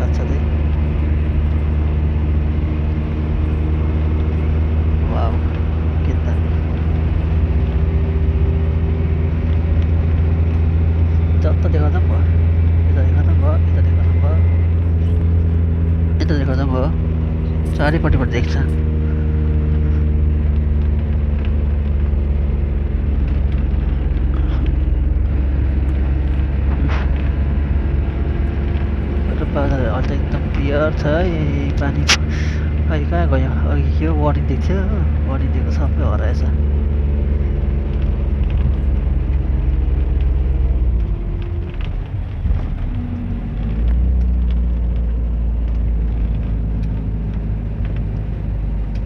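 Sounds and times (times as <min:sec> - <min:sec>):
bus engine and road noise: 0:00.0 - 0:49.0
small rattles and clicks: 0:00.0 - 0:49.0.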